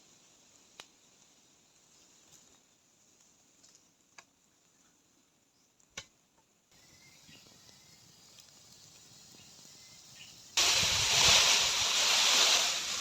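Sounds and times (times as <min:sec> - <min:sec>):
quiet outdoor hiss: 0:00.0 - 0:13.0.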